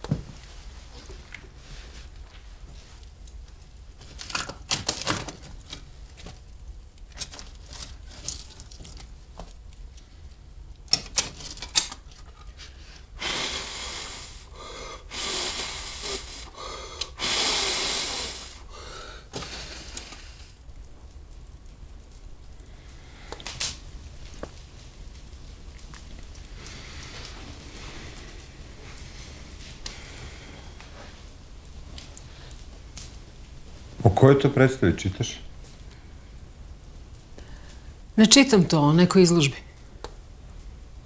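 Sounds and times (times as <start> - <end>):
crackly rustling: 0.0 - 13.2, 18.2 - 41.0.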